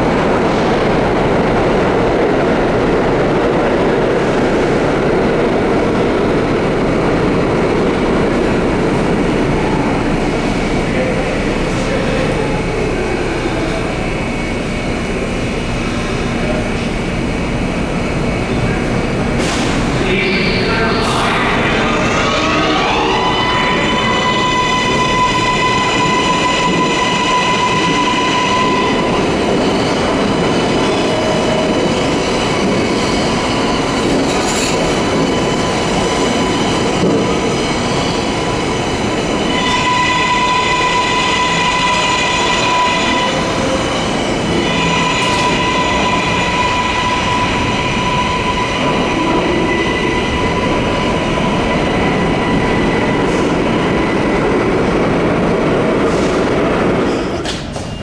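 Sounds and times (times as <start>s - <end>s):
subway train rumbling: 0.0s - 58.0s.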